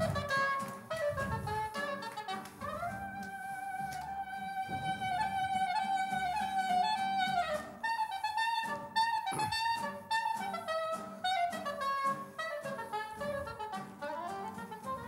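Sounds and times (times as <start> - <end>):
klezmer band music: 0.0 - 15.0
wind instrument melody with slides: 0.0 - 15.0.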